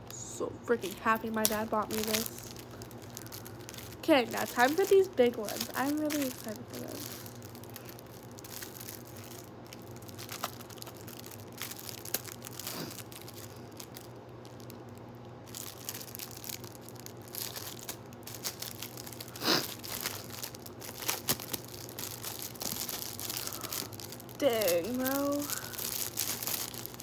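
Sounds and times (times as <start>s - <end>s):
packaging crinkling and rustling: 0.7s - 27.0s
packaging tearing: 0.8s - 14.8s, 15.5s - 27.0s.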